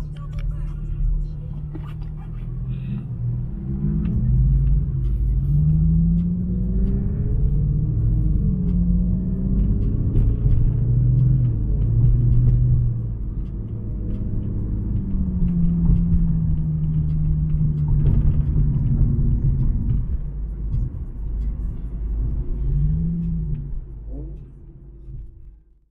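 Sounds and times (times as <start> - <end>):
car engine drone: 0.0 - 25.9.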